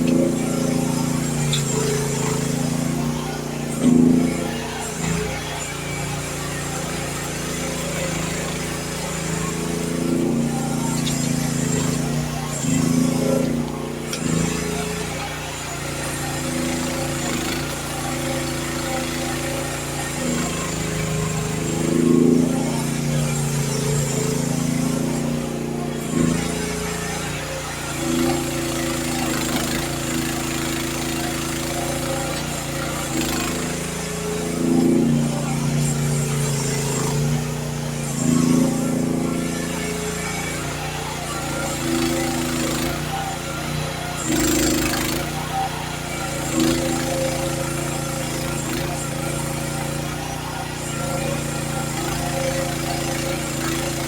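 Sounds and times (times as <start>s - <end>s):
mini excavator engine running: 0.0s - 54.0s.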